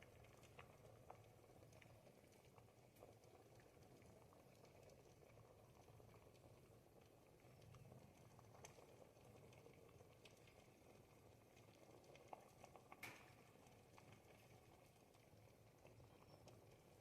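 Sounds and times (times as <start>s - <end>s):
soup simmering with pops: 0.0s - 17.0s.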